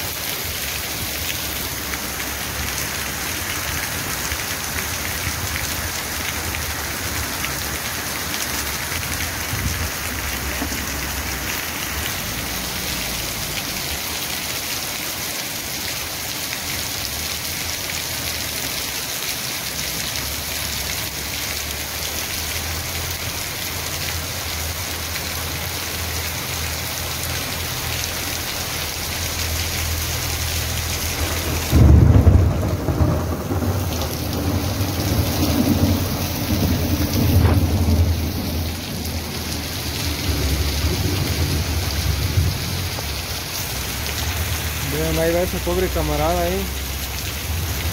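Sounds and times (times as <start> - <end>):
heavy rain on concrete: 0.0 - 47.9
water gushing from drain spout: 0.0 - 47.9.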